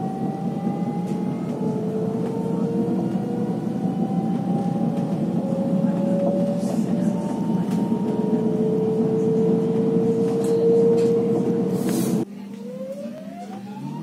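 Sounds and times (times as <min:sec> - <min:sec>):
train wheels rumbling on rails: 0:00.0 - 0:12.3.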